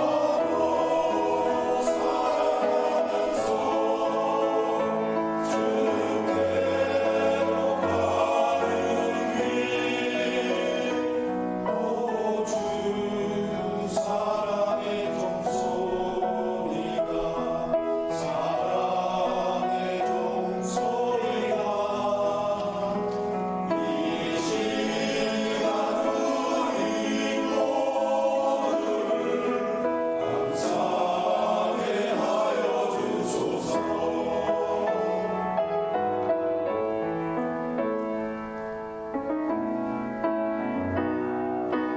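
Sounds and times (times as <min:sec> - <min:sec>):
choir singing a hymn: 0:00.0 - 0:38.1.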